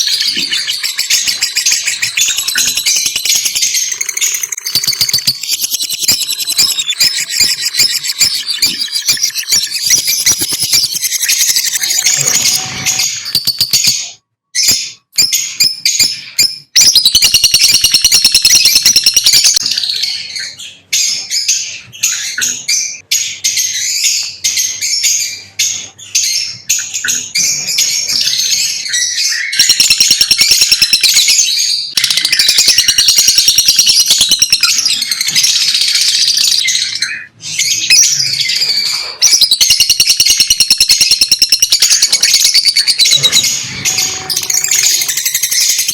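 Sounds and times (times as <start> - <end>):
lovebirds chirping: 0.0 - 45.9.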